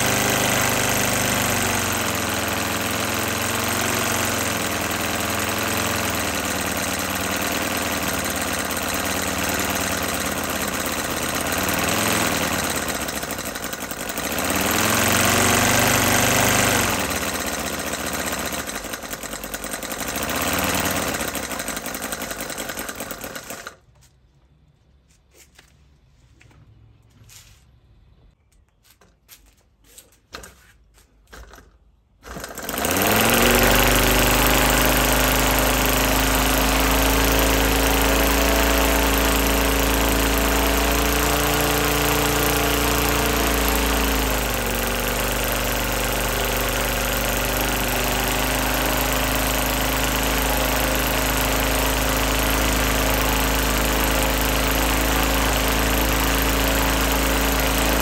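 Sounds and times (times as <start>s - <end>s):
model radial engine running: 0.0s - 23.8s, 31.3s - 58.0s.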